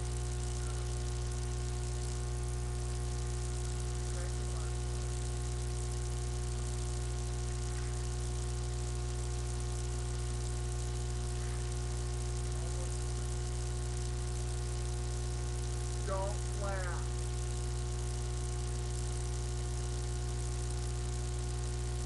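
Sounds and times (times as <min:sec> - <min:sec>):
constant hiss: 0:00.0 - 0:22.0
electrical mains hum: 0:00.0 - 0:22.0.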